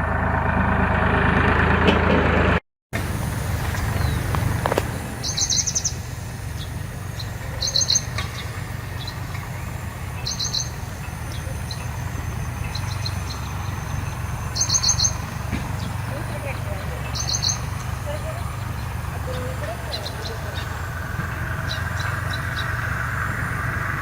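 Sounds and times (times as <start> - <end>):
small birds chirping: 3.0 - 24.0
steady low rumble: 3.0 - 24.0.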